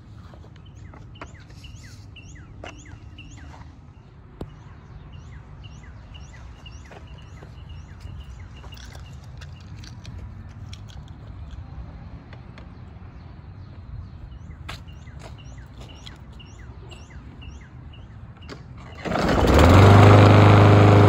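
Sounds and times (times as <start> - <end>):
small birds chirping: 0.2 - 11.8, 12.4 - 19.1.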